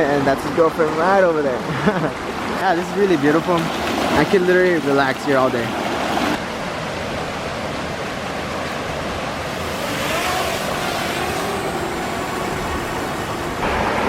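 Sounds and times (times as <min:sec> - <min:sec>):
waterfall rushing: 0:02.2 - 0:14.0.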